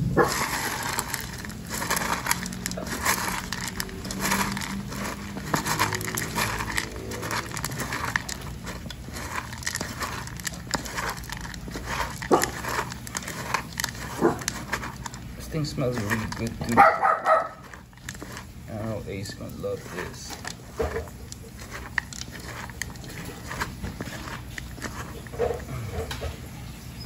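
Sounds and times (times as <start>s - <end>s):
kibble crackling and clicking: 0.0s - 26.4s
wet food squishing: 0.0s - 26.4s.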